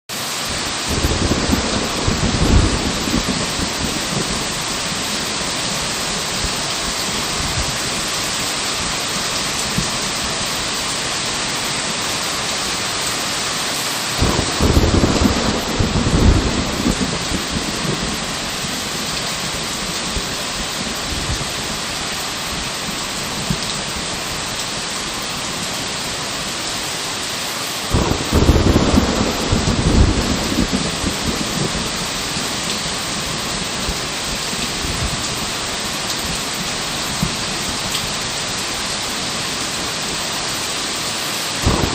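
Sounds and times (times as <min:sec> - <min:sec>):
heavy rain falling: 0:00.1 - 0:41.9
thunder rumbling: 0:00.4 - 0:13.0, 0:14.1 - 0:26.6, 0:27.9 - 0:40.2, 0:41.6 - 0:41.9.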